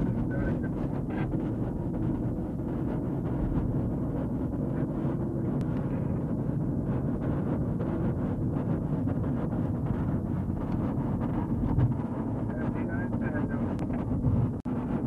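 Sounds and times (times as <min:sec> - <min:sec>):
car interior road and engine rumble: 0:00.0 - 0:15.0.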